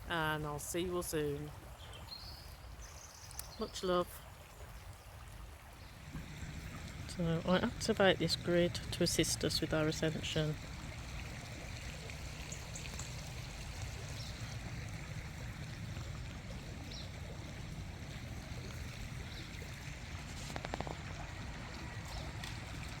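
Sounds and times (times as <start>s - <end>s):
river water rushing: 3.8s - 23.0s.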